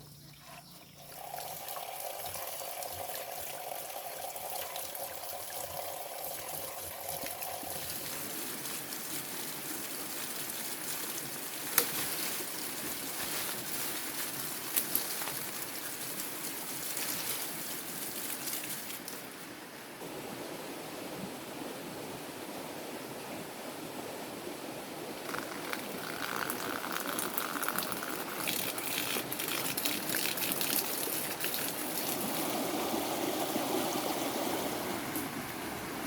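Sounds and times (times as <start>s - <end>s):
water running and trickling: 0.2s - 19.2s, 25.2s - 35.3s.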